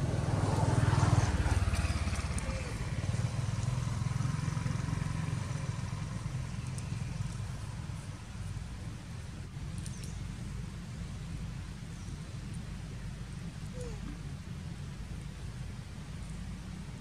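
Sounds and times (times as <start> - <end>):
motor vehicle engine rumble: 0.0 - 17.0.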